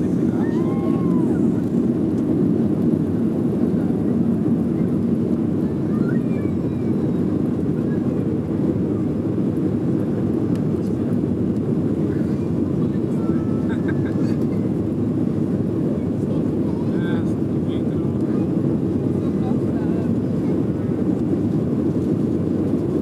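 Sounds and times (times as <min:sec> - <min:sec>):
jet engines at takeoff thrust: 0:00.0 - 0:23.0.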